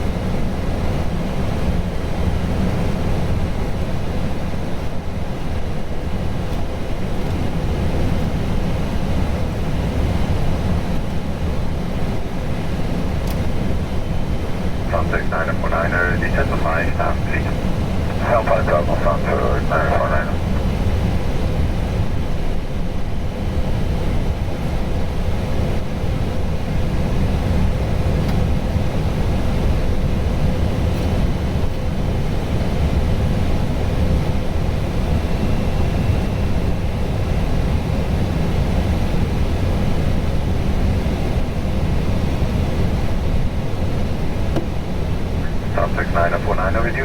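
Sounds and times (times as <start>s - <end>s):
airplane cockpit rushing rumble: 0.2s - 34.4s, 40.6s - 47.0s.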